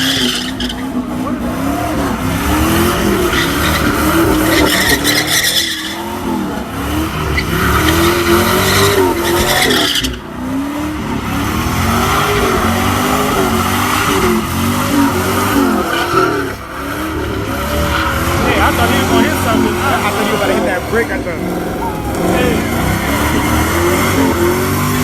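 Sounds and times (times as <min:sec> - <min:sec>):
car engine revving: 0:00.0 - 0:25.0
tyres squealing: 0:00.0 - 0:25.0.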